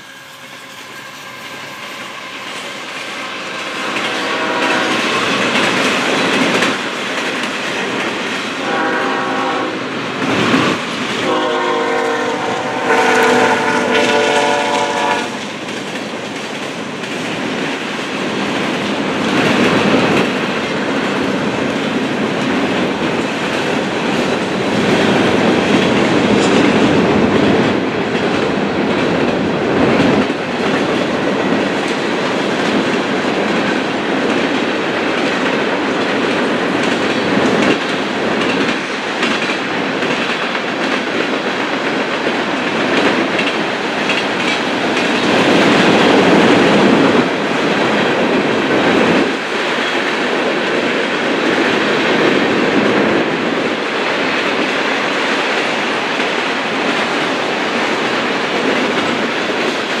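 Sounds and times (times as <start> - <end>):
freight train wheels rumbling on rail: 0.0 - 60.0.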